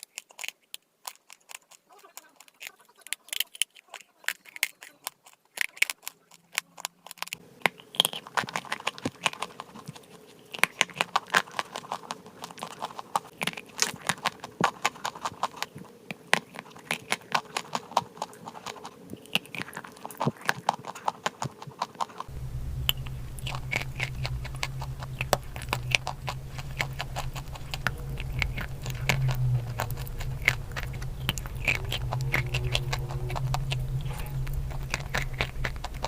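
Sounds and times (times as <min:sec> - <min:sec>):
chewing dry clay crunching: 0:00.0 - 0:36.0
faint steady hum: 0:03.2 - 0:36.0.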